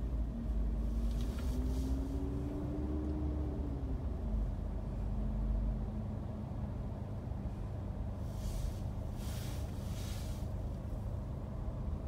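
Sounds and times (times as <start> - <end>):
car cabin rumble in traffic: 0.0 - 12.0.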